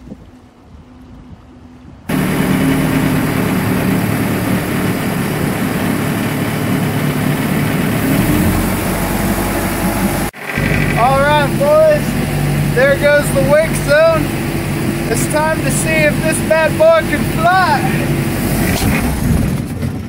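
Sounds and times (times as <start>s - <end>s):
wake rushing: 2.1s - 19.6s
deeper drone: 2.1s - 19.7s
boat engine running: 2.1s - 20.0s.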